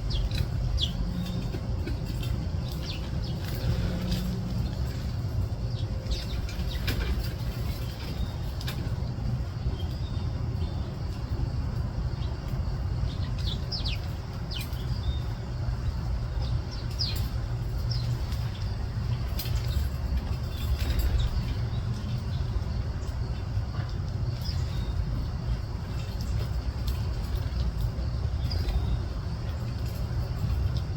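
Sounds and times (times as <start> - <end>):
small birds chirping: 0.0 - 30.9
steady low rumble: 0.0 - 30.9.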